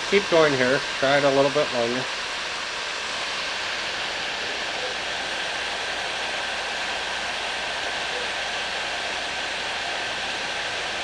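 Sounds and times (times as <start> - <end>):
heat gun blowing air: 0.0 - 11.0.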